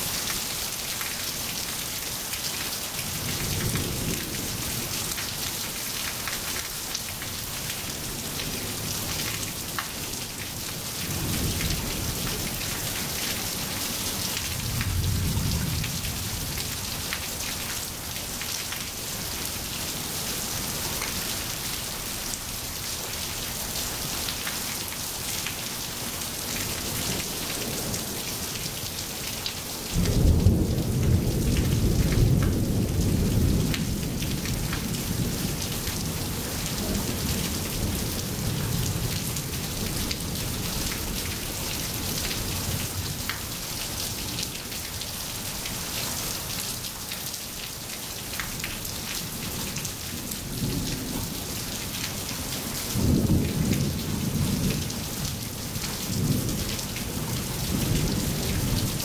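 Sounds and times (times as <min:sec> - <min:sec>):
rain on wet pavement: 0:00.0 - 0:59.0.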